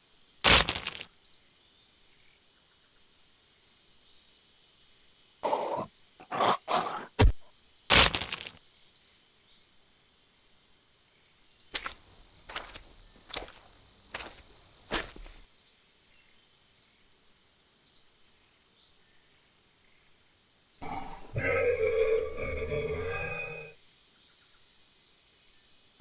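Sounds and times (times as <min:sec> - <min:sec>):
faint outdoor ambience: 0:00.0 - 0:26.0.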